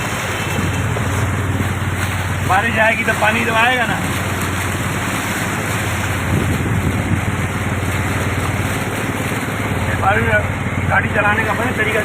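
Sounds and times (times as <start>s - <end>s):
vehicle engine running: 0.0s - 12.0s
vehicle rushing through floodwater: 0.0s - 12.0s.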